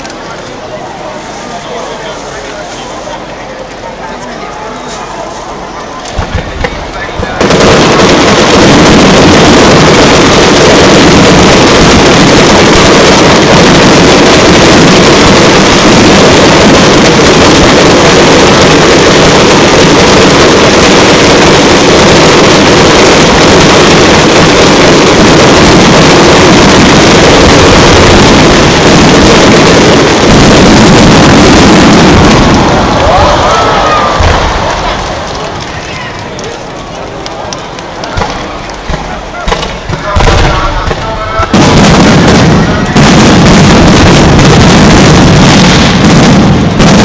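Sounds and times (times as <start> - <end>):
fireworks barrage: 5.0 - 47.0.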